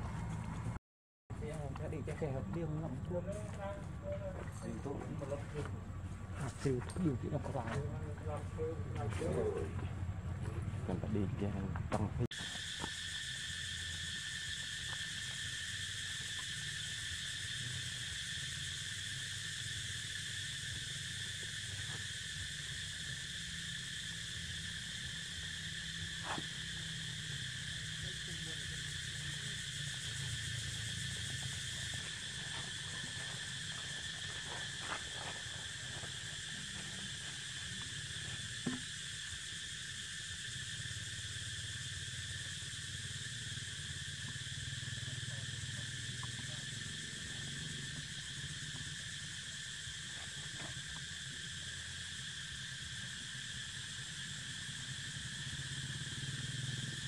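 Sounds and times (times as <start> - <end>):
cicada drone: 0.0 - 57.0.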